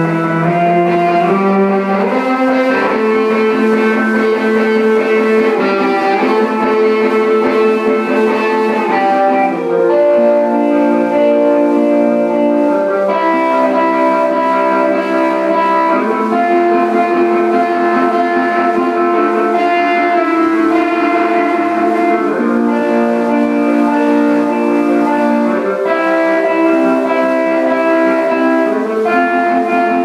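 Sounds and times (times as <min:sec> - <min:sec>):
electric guitar sustained chords: 0:00.0 - 0:30.0.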